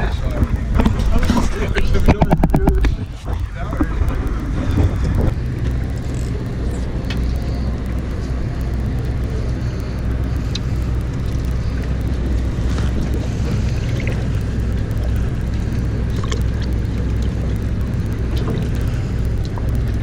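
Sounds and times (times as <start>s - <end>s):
boat engine droning: 0.0s - 20.0s
water noise: 0.0s - 20.0s
wind noise: 0.0s - 20.0s.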